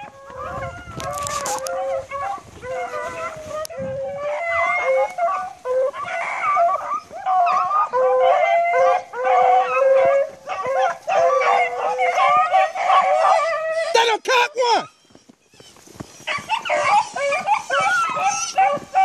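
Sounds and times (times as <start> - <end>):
dogs baying: 0.0 - 19.0.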